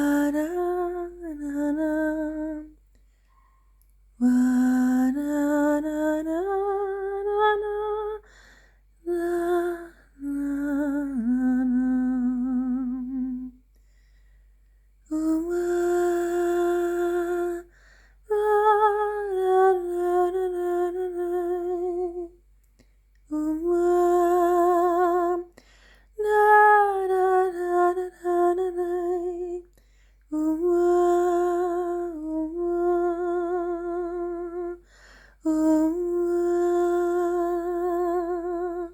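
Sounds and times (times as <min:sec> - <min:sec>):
person humming a slow melody: 0:00.0 - 0:02.8, 0:04.2 - 0:08.3, 0:09.0 - 0:13.8, 0:15.0 - 0:22.4, 0:23.2 - 0:25.6, 0:26.2 - 0:38.9.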